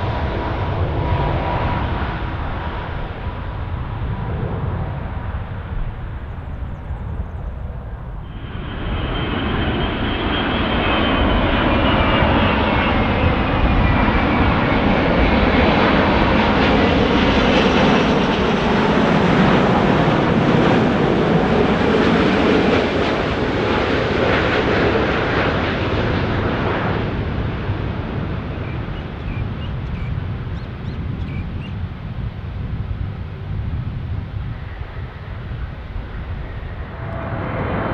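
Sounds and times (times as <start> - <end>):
high jet engine whines: 0.0 - 37.9
jet engines roaring: 0.0 - 37.9.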